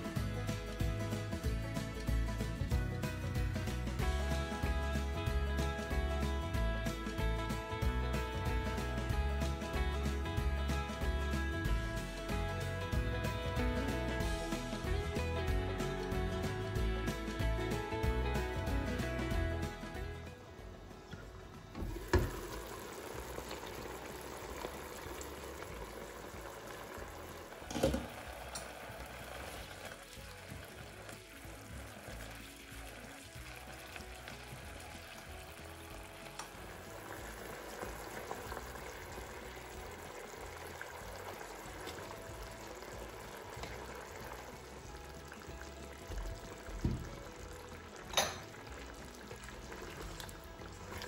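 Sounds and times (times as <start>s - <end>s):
stew simmering and bubbling: 0.0s - 51.0s.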